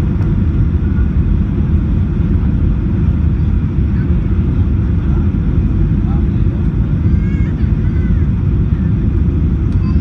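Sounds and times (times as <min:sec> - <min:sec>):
airplane engine and airflow rumble: 0:00.0 - 0:10.0.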